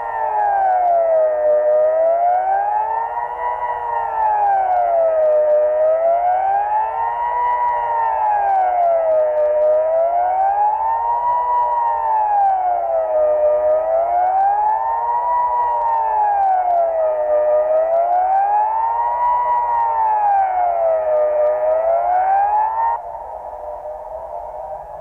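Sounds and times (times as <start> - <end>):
civil defence siren wailing: 0.0 - 25.0.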